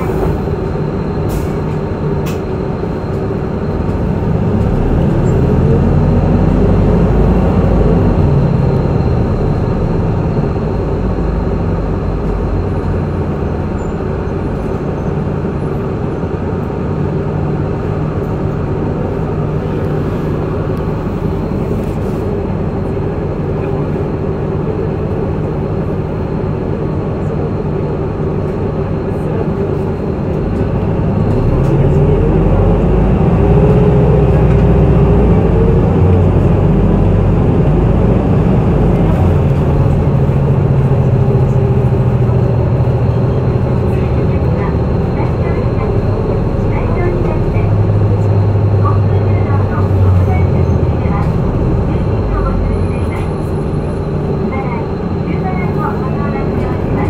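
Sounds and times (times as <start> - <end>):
bus engine accelerating: 0.0 - 57.0.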